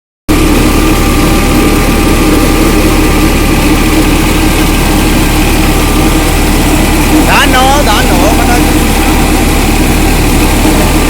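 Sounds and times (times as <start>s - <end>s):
tractor engine driving mill machinery: 0.3s - 11.0s.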